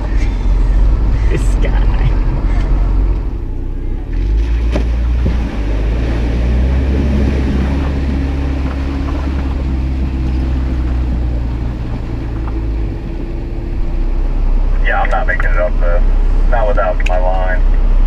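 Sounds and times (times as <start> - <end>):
engine running under load: 0.0 - 18.0
tyres churning through mud: 0.0 - 18.0.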